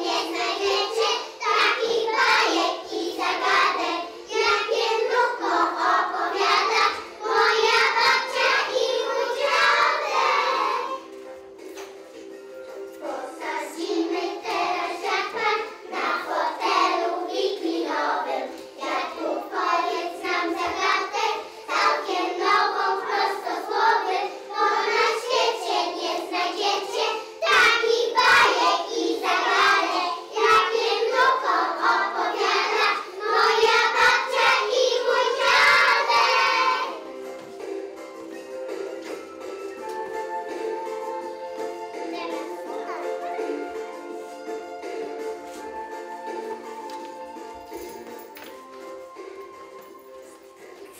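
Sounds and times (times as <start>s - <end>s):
children singing: 0.0s - 11.1s, 12.7s - 37.2s, 40.0s - 47.7s
backing music: 0.0s - 50.9s.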